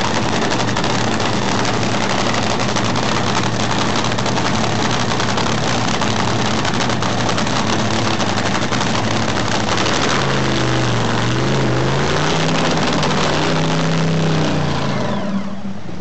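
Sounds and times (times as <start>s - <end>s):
dragster engine revving: 0.0s - 16.0s.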